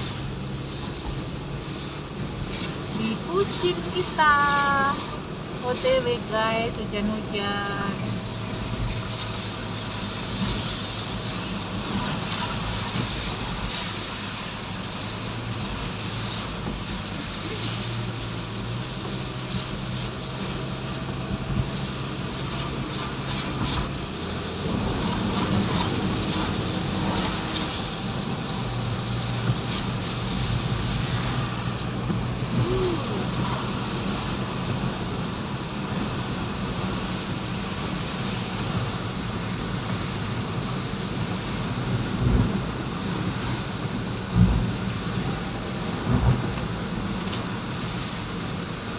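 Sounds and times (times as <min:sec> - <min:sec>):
low engine hum: 0:00.0 - 0:48.9
road noise: 0:00.0 - 0:48.9.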